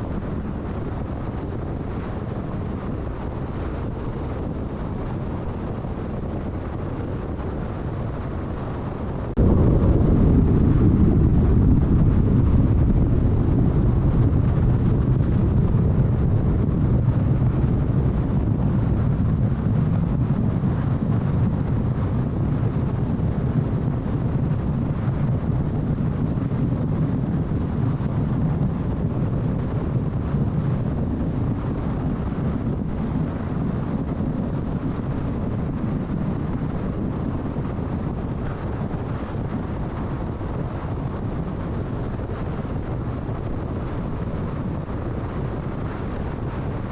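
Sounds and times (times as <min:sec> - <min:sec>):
wind noise: 0:00.0 - 0:46.9.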